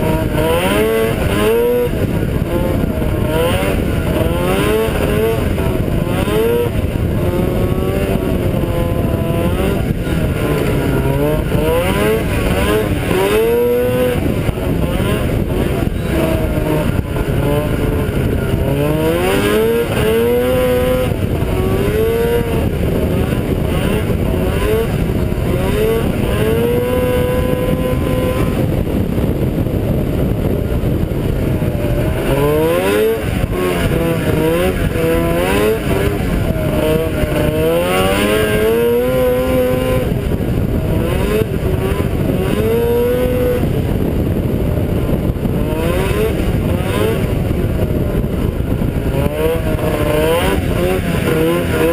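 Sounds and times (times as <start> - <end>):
snowmobile engine accelerating hard: 0.0 - 51.9.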